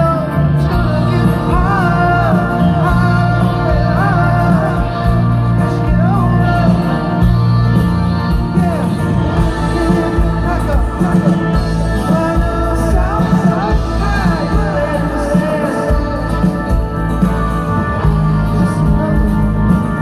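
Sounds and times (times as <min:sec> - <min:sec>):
bending lead guitar melody: 0:00.0 - 0:20.0
live rock band playing: 0:00.0 - 0:20.0.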